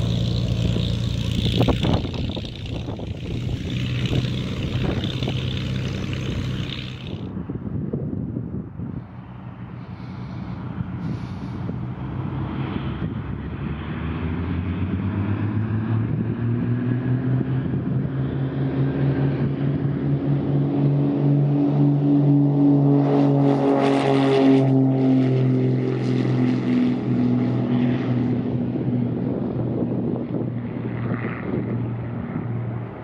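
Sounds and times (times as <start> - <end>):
propeller plane engines droning: 0.0 - 33.0.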